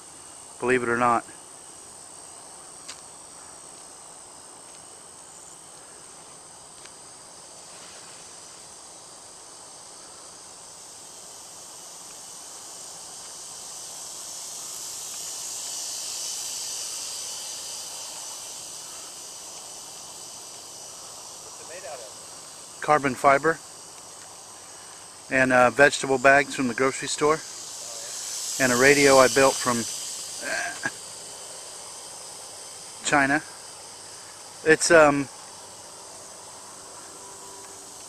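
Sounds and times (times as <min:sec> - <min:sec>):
crickets and insects trilling: 0:00.0 - 0:38.0.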